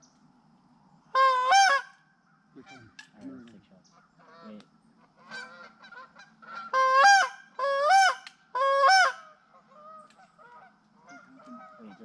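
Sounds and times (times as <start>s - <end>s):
geese honking: 1.2s - 3.0s, 4.0s - 12.0s.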